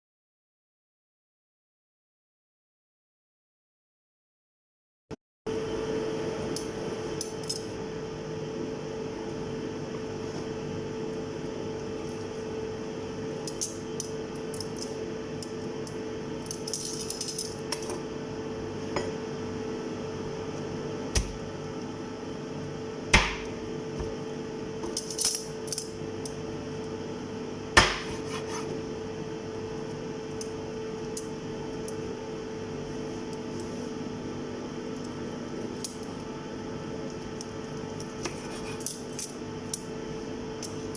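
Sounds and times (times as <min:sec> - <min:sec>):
steady background hum: 0:05.5 - 0:40.9.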